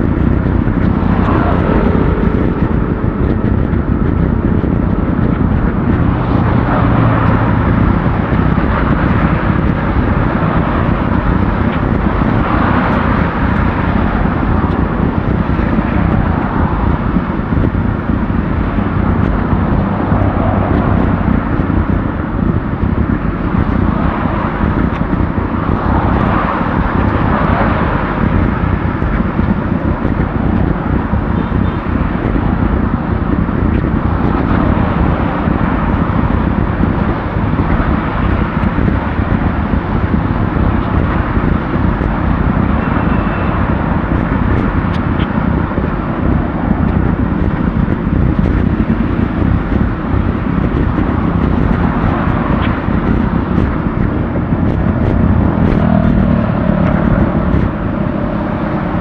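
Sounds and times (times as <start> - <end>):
traffic: 0.0 - 59.0
wind buffeting microphone: 0.0 - 59.0.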